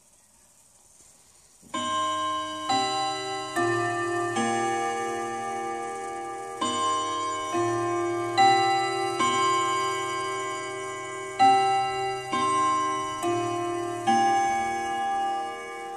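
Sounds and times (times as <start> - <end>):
clock chiming on gong rods: 1.8 - 15.9.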